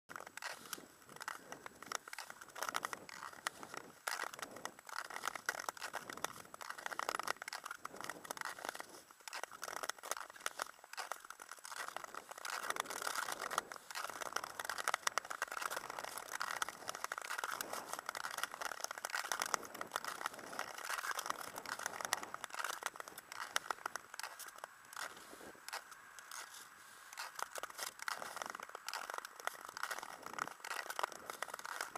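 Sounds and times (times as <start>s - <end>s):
ice skate blades scraping ice: 0.2s - 31.9s.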